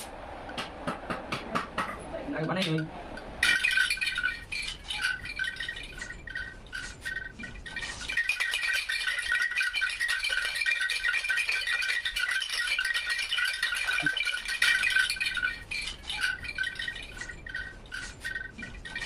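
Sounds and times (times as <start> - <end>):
bamboo wind chime clattering: 2.4 - 19.0.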